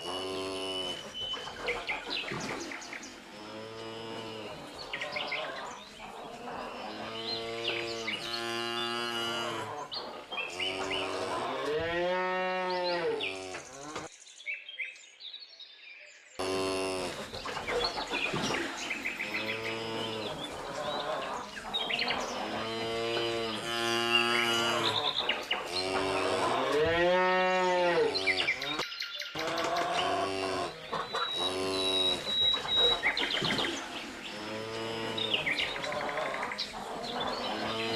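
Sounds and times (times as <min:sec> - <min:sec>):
cows mooing: 0:00.0 - 0:01.2, 0:03.1 - 0:14.1, 0:16.4 - 0:28.8, 0:29.4 - 0:37.9
small birds chirping: 0:00.0 - 0:37.9.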